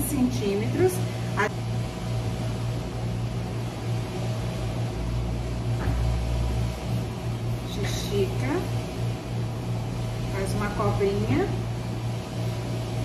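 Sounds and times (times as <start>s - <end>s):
machine humming with hiss: 0.0s - 13.0s.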